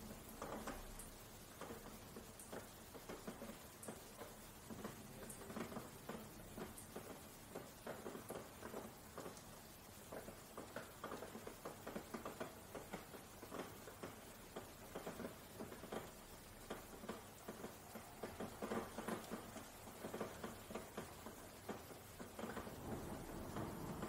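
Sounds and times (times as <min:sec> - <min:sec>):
rain tapping on a window: 0:00.0 - 0:24.0
soft steady hiss: 0:00.0 - 0:24.0.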